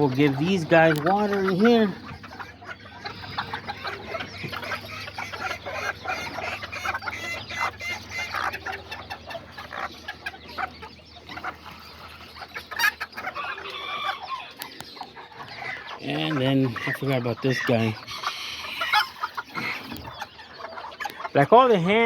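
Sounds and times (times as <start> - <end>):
chickens clucking and calling: 0.0 - 22.0.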